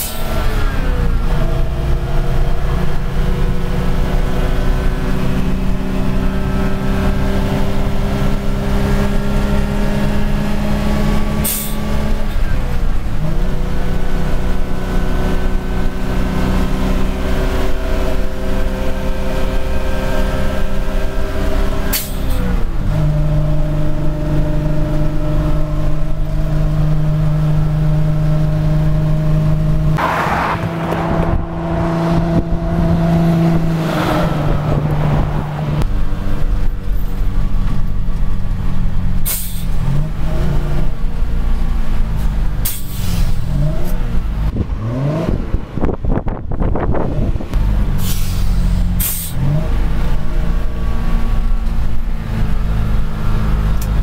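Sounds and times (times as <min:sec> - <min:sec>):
lorry diesel engine: 0:00.0 - 0:54.0.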